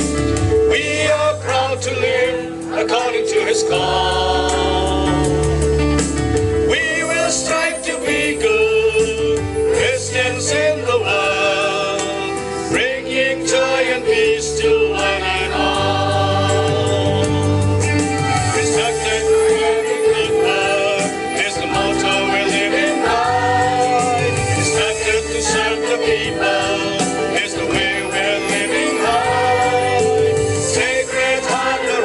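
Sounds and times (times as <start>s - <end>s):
choir singing through loudspeakers: 0.2s - 5.7s, 6.6s - 32.0s.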